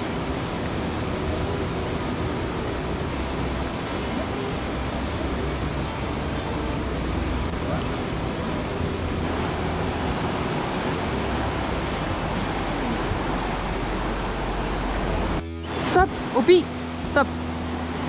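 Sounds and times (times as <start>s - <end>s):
river rapids rushing: 0.0s - 18.0s.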